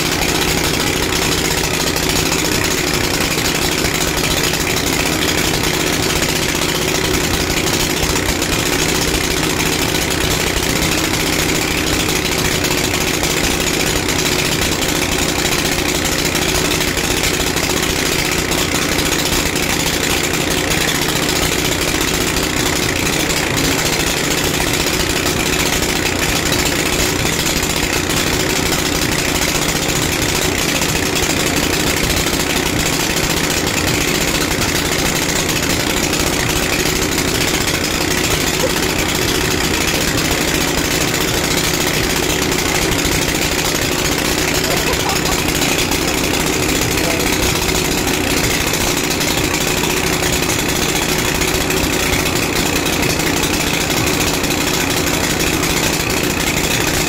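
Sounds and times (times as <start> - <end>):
concrete mixer engine idling: 0.0 - 57.0.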